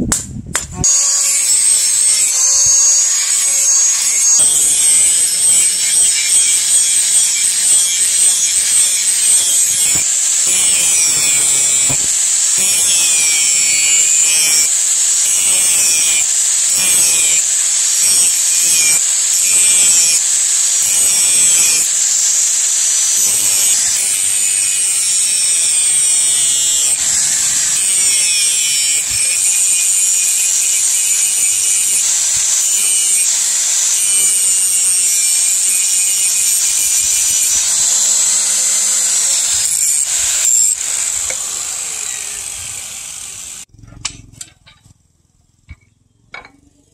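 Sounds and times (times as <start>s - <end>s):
angle grinder grinding steel: 0.8s - 45.0s.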